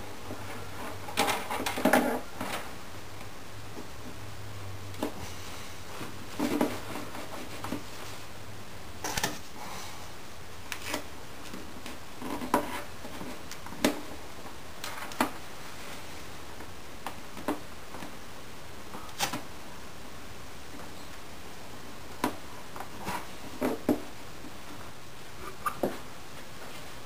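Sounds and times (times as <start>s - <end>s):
background hiss: 0.0s - 27.0s.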